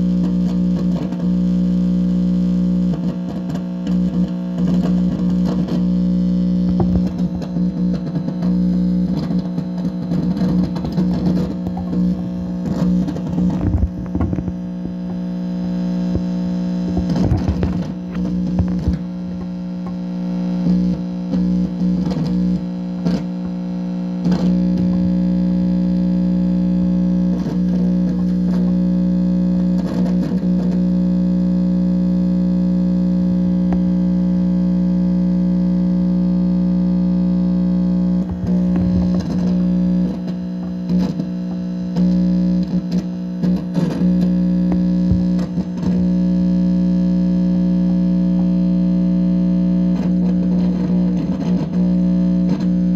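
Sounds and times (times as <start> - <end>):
crackles and pops: 0.0 - 34.4, 35.5 - 46.2
amplifier buzzing drone: 0.0 - 52.9.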